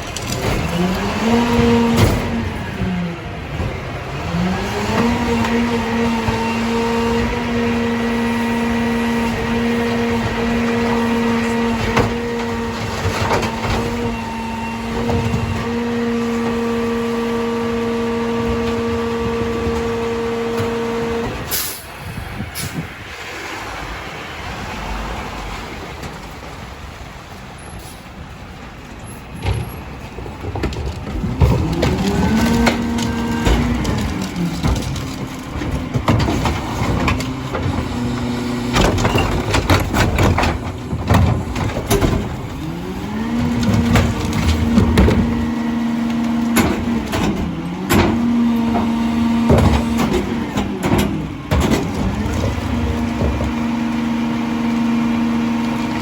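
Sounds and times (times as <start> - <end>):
garbage truck diesel engine revving: 0.0 - 23.0, 29.8 - 56.0
carts and trash clanking: 0.0 - 56.0.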